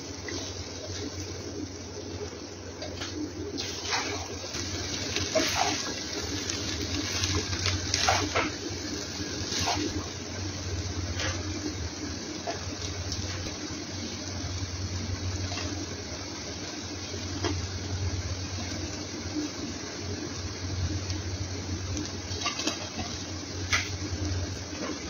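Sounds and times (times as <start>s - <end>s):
rice sizzling in frying pan: 0.0s - 25.0s.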